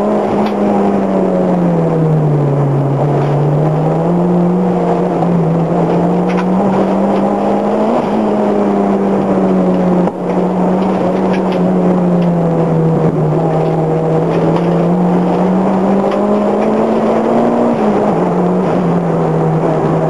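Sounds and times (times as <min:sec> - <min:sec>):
car engine running hard: 0:00.0 - 0:20.0
tyre and wind noise: 0:00.0 - 0:20.0.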